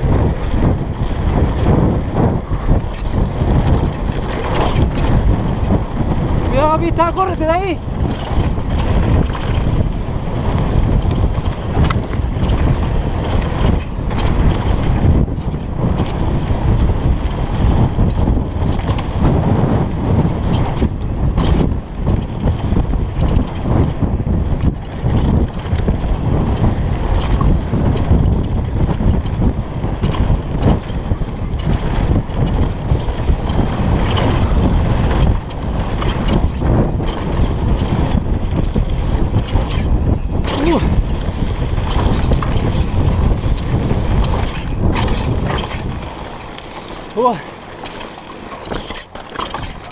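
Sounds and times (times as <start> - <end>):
low rumble of bike tyres: 0.0 - 49.9
wind buffeting camera: 0.0 - 49.9
light clicks and rattles: 2.8 - 19.4, 20.0 - 49.9.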